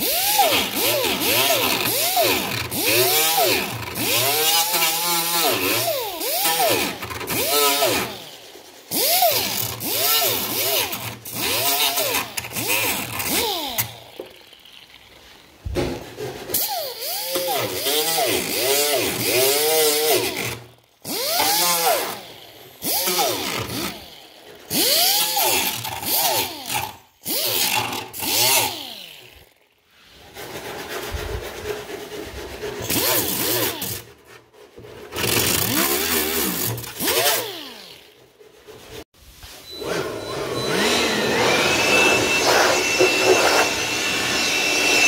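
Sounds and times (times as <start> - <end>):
grinder whining: 0.0 - 29.8, 31.4 - 45.0.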